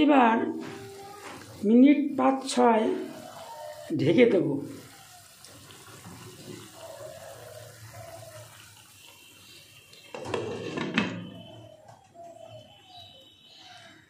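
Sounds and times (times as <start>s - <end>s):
curry bubbling at a simmer: 2.4s - 14.0s.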